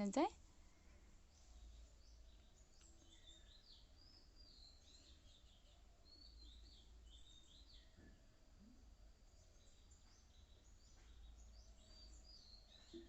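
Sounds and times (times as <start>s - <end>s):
faint bird chirping: 0.0s - 13.0s
low steady hum: 0.0s - 13.0s.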